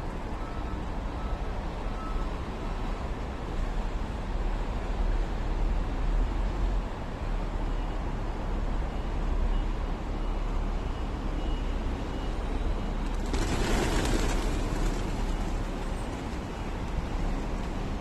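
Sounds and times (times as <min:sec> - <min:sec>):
low urban rumble: 0:00.0 - 0:18.0.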